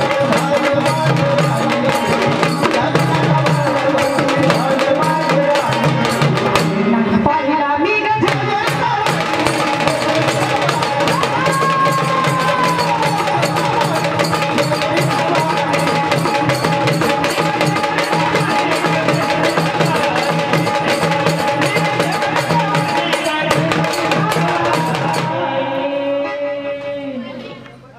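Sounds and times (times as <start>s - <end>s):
fast hand drumming: 0.0s - 6.8s, 8.3s - 25.3s.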